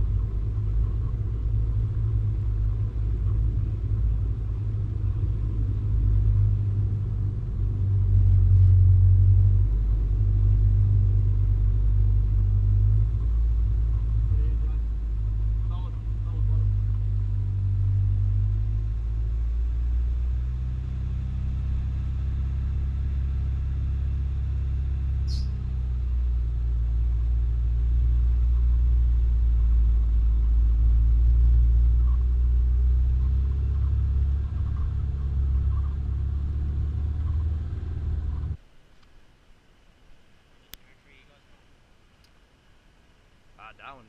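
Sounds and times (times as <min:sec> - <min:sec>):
vehicle engine rumbling: 0:00.0 - 0:39.5.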